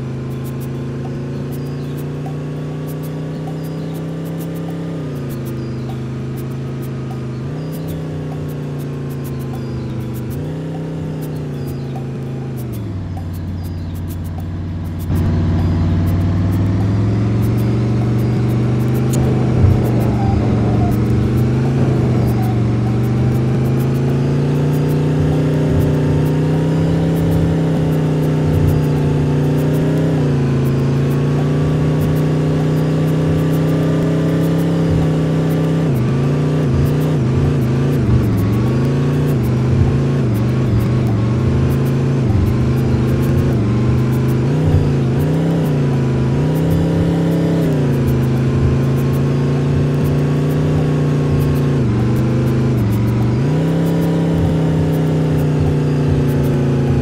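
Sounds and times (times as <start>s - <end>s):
bus engine running under load: 0.0s - 57.0s.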